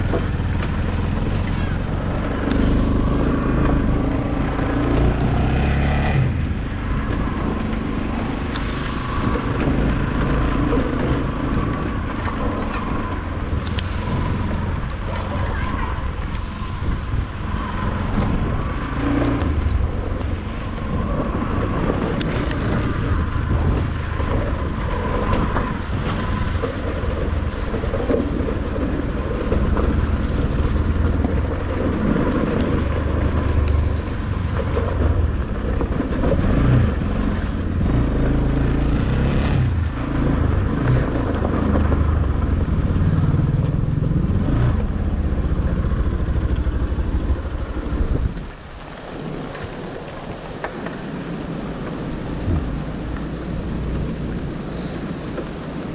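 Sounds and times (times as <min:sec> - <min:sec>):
vehicle engine and road rumble: 0:00.0 - 0:55.9
wind on microphone: 0:00.0 - 0:55.9.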